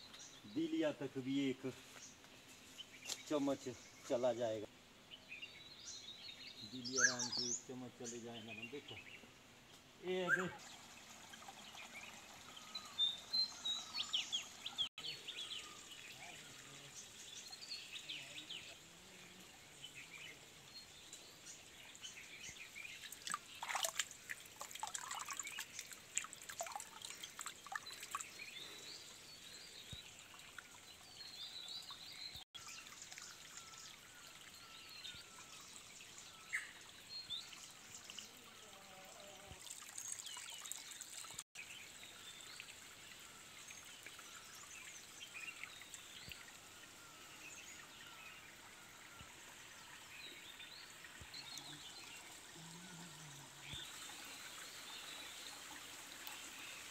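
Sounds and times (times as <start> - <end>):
birds chirping: 0.0 - 56.9
faint stream trickling: 0.0 - 56.9.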